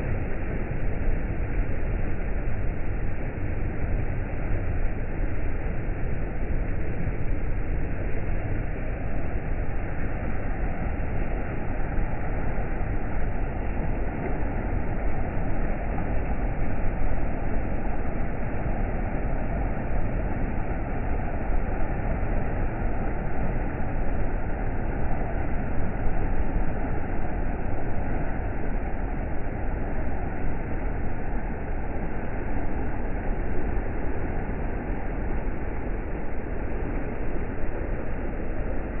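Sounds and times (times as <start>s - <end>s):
water rushing over boulders: 0.0s - 39.0s.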